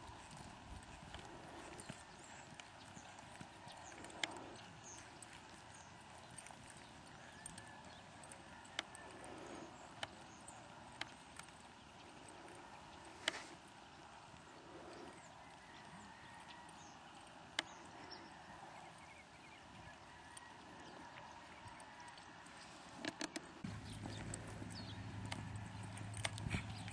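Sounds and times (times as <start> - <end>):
hoofbeats on soft dirt: 0.0 - 26.9.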